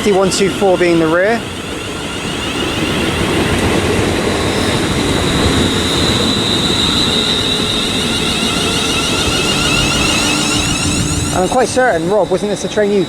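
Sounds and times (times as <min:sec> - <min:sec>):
thin high whine: 0:00.0 - 0:13.0
train wheels rumbling on rails: 0:00.0 - 0:13.0.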